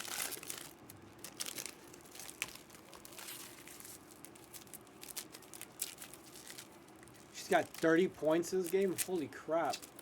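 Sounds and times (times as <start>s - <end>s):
card wrappers tearing and crinkling: 0.0s - 10.0s.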